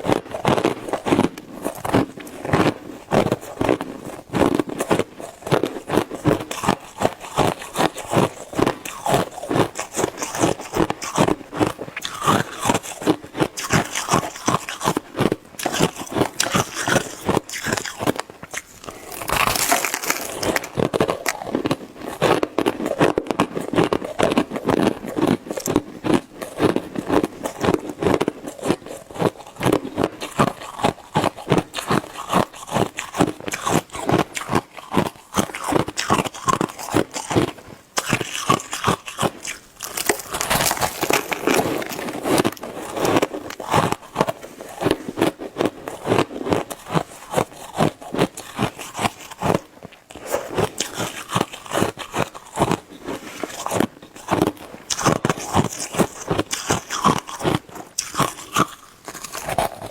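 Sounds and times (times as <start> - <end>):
shaved ice being chewed: 0.0 - 59.9.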